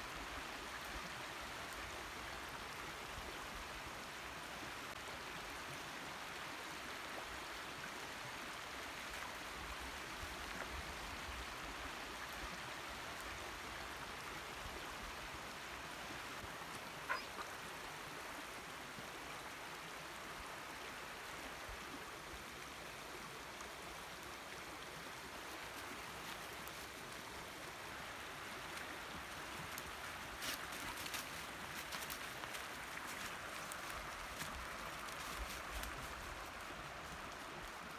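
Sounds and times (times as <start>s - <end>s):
creek running over rocks: 0.0s - 37.9s.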